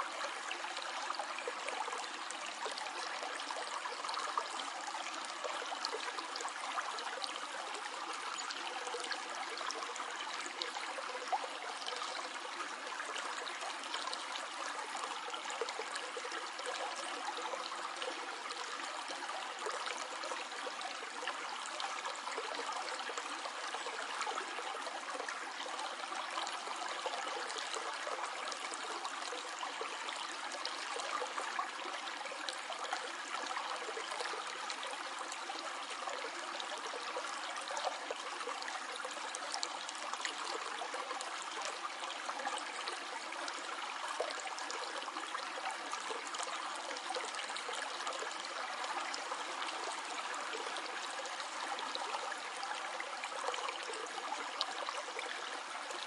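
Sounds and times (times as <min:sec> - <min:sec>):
stream flowing and trickling: 0:00.0 - 0:56.0.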